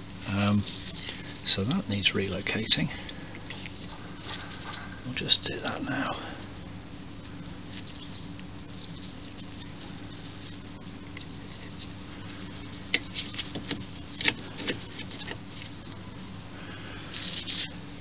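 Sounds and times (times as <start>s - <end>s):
low workshop hum: 0.0s - 18.0s.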